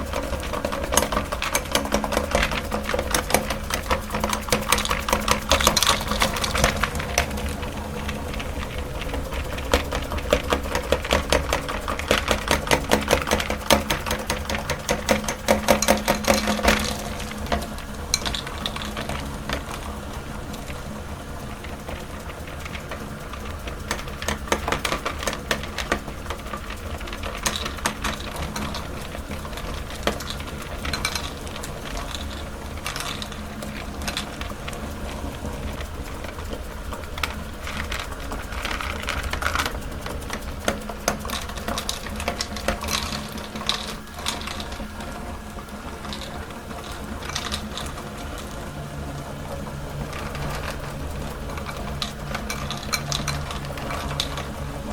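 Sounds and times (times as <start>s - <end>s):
meat grinder motor running: 0.0s - 54.9s.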